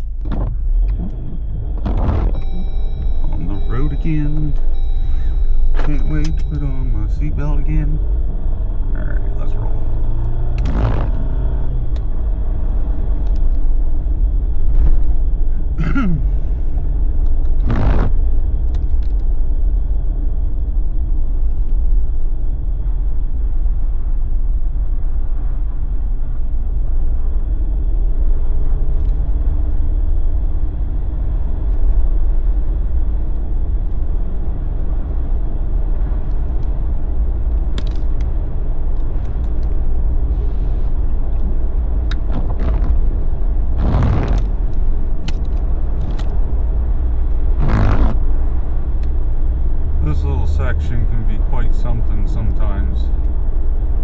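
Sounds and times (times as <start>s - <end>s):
engine and tyre rumble inside car: 0.0s - 54.0s.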